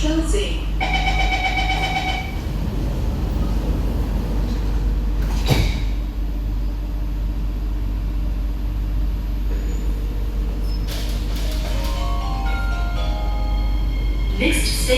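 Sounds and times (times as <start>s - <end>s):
train interior hum: 0.0s - 14.9s.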